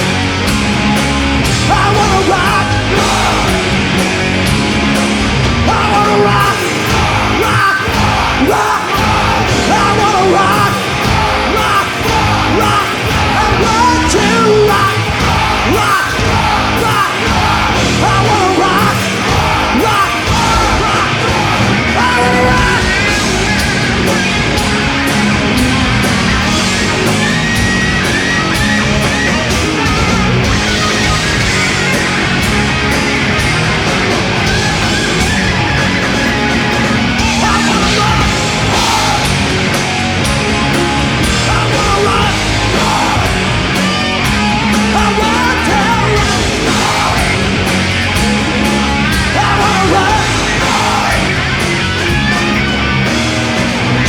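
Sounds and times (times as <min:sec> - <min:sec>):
live heavy metal music: 0:00.0 - 0:54.0.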